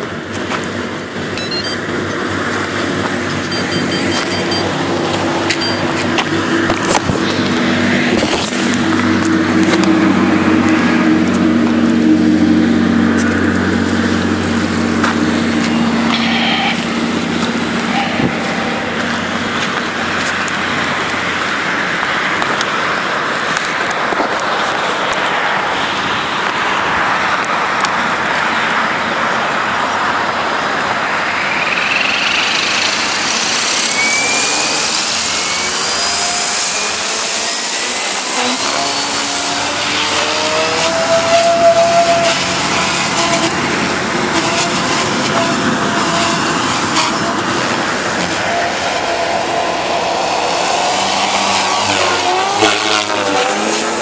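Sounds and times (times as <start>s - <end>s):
helicopter motor and rotor whine: 0.0s - 25.2s, 29.3s - 54.0s
constant rushing noise: 0.0s - 54.0s.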